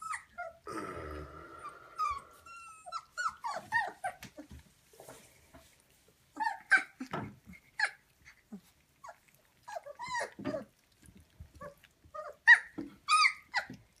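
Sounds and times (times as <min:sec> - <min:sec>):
puppies whining and squealing: 0:00.0 - 0:00.7, 0:01.6 - 0:04.6, 0:06.3 - 0:14.0.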